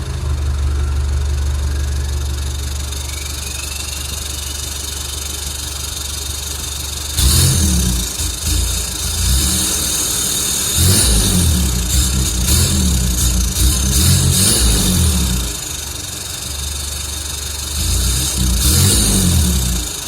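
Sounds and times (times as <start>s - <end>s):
diesel engine idling and revving: 0.0s - 20.0s.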